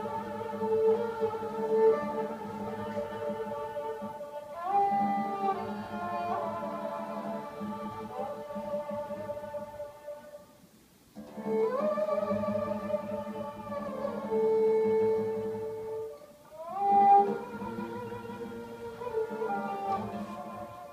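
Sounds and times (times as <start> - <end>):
bowed fiddles holding long notes: 0.0 - 10.5, 11.2 - 20.9
lute plucked notes: 0.0 - 10.6, 11.2 - 20.9.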